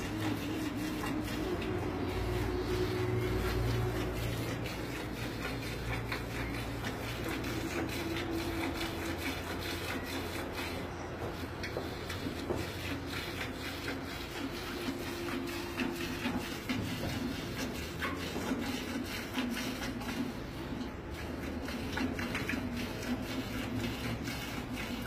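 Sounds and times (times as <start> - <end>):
milk squirting into a pail: 0.0 - 25.0.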